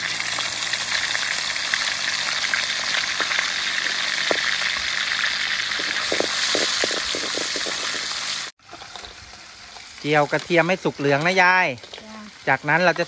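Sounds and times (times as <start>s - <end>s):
garlic sizzling in oil: 0.0s - 13.0s.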